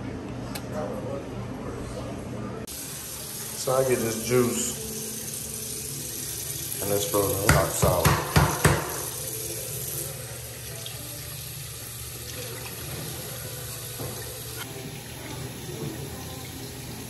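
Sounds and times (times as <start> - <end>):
faucet water splashing into sink: 2.7 - 17.0.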